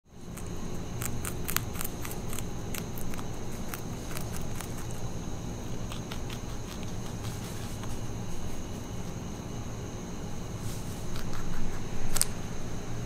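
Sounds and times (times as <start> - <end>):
rabbit crunching celery: 0.1 - 9.1, 10.6 - 12.6.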